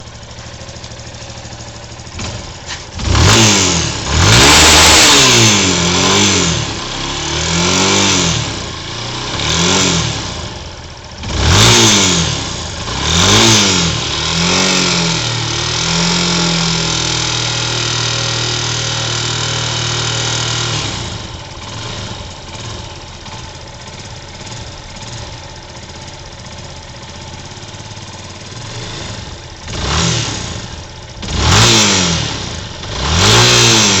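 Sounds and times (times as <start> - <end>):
motorcycle engine revving and idling: 0.0 - 34.0.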